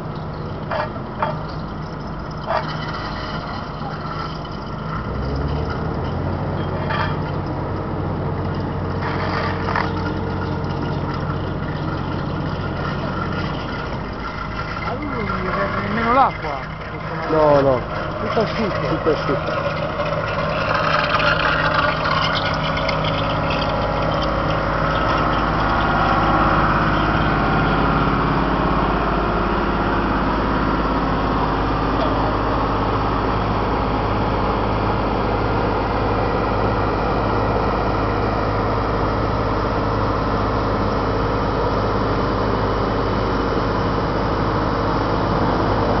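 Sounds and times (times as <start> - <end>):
road roller diesel engine droning: 0.0 - 46.0.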